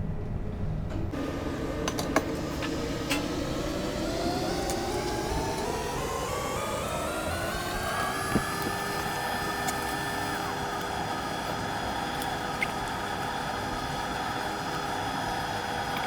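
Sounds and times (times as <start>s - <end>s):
hot-air blower whirring: 1.1s - 16.0s.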